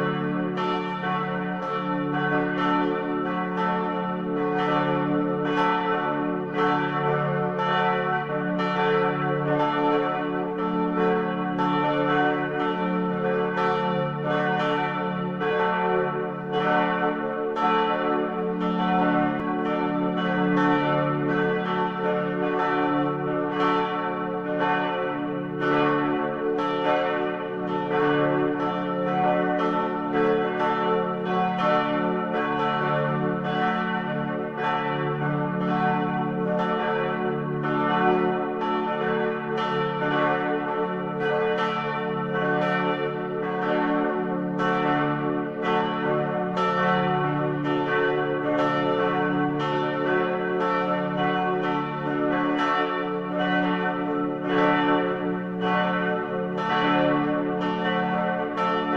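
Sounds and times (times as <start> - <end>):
church bells ringing: 0.0 - 58.9.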